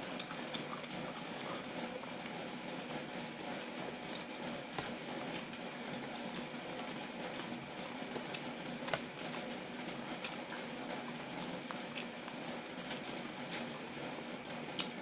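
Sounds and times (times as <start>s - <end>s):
person chewing and smacking: 0.1s - 2.4s, 4.0s - 15.0s.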